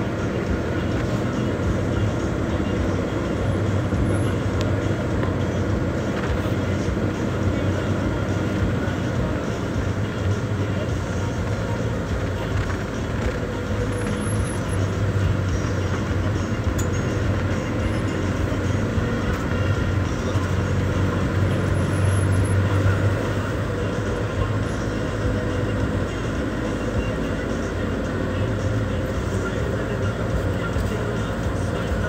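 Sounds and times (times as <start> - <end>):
bus engine drone: 0.0 - 32.0
road noise: 0.0 - 32.0.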